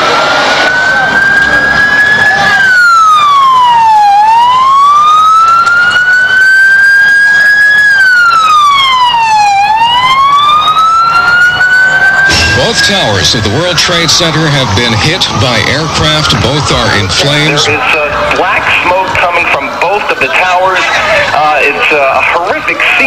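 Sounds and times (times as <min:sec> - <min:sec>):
emergency vehicle siren wailing: 0:00.0 - 0:23.0
street noise: 0:00.0 - 0:23.0.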